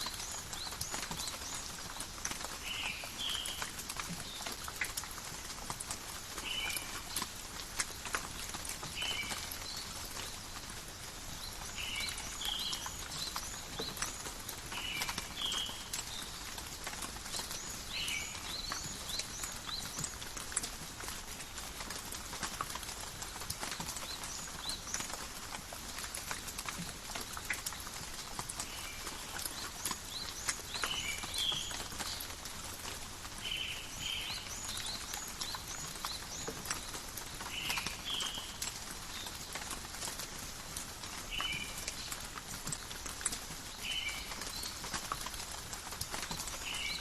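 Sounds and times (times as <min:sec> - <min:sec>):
rain falling through foliage: 0:00.0 - 0:47.0.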